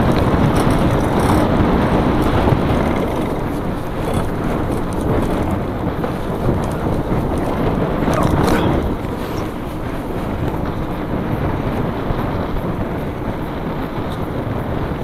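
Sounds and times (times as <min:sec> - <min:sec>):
bike tyres rolling on gravel: 0:00.0 - 0:15.0
wind buffeting the microphone: 0:00.0 - 0:15.0.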